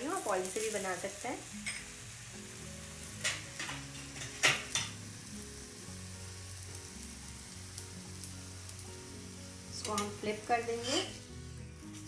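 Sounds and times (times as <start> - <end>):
ghee sizzling on hot pan: 0.0 - 12.0.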